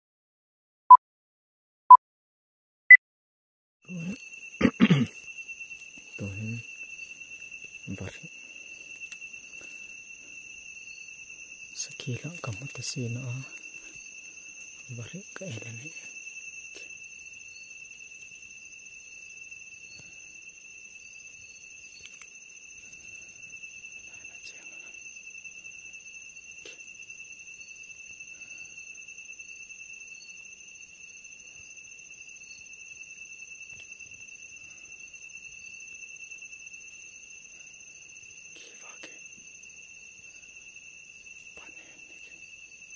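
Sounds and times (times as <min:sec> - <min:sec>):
insects trilling: 0:03.8 - 0:42.9.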